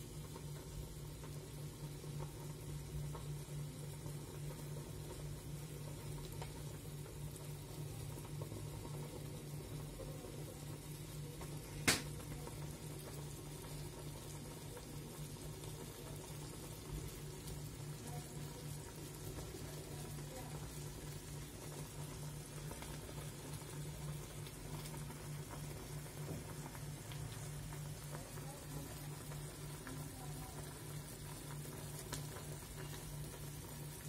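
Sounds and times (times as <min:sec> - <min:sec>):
curry bubbling in metal pot: 0:00.0 - 0:34.0.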